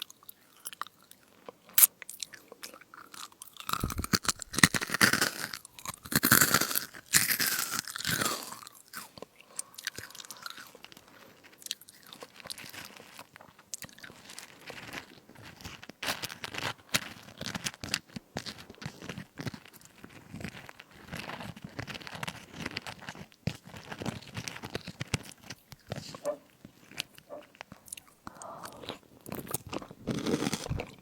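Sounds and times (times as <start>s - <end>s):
crunchy biting and chewing: 0.0s - 31.0s.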